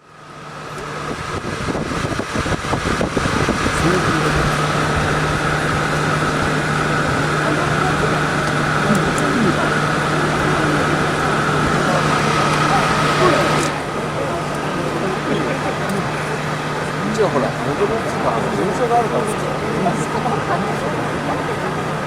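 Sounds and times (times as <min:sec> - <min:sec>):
crowd chatter: 0:00.0 - 0:22.0
steady low hum: 0:00.0 - 0:22.0.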